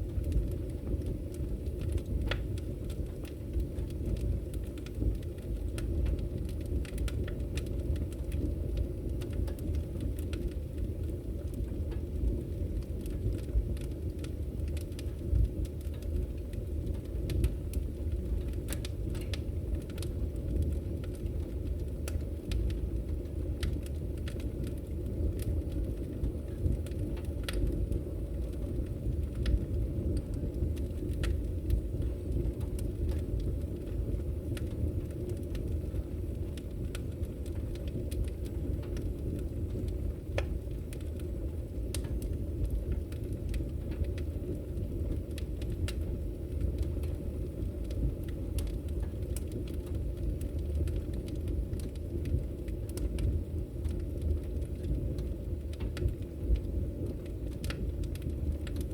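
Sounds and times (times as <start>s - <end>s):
burning logs crackling and popping: 0.0s - 58.9s
fire roaring: 0.0s - 58.9s.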